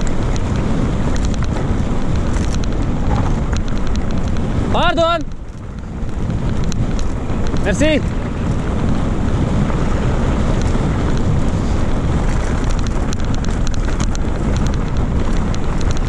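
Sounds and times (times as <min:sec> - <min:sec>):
bike clicks and rattles: 0:00.0 - 0:16.0
wind on microphone: 0:00.0 - 0:16.0.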